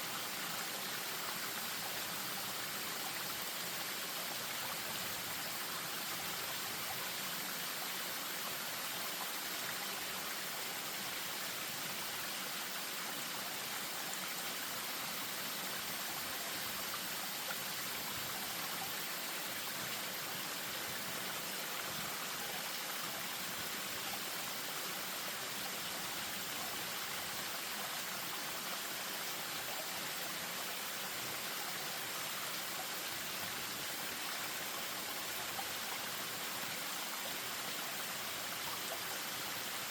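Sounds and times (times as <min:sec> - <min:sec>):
stream over small waterfall: 0:00.0 - 0:39.9.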